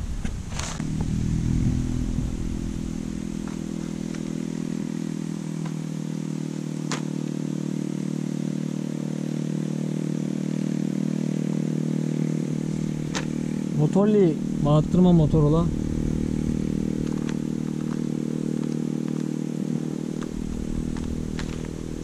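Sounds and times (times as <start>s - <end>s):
engine idling: 0.8s - 8.8s, 9.4s - 22.0s.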